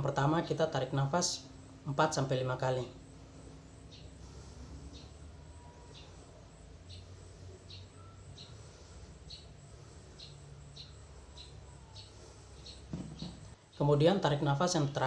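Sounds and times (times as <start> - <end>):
low steady hum: 0.0 - 15.0
small bird chirping: 1.2 - 13.8.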